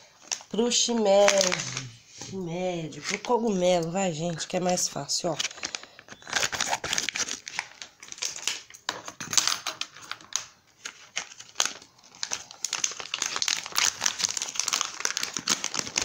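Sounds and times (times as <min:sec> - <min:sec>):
plastic packaging crinkling: 0:00.0 - 0:02.0, 0:02.9 - 0:16.0.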